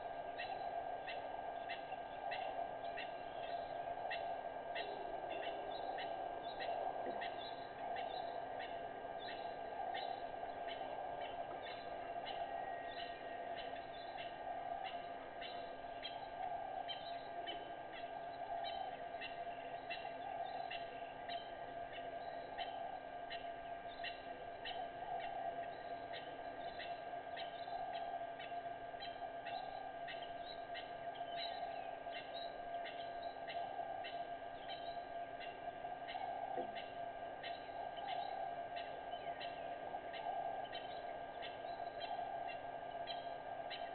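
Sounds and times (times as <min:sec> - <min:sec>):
animal chorus drone: 0:00.0 - 0:43.9.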